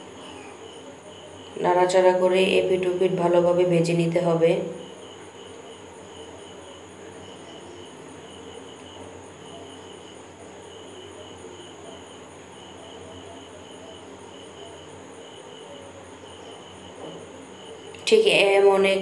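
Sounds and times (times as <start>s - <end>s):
insects trilling: 0.0s - 19.0s
low insect chirp: 0.0s - 19.0s.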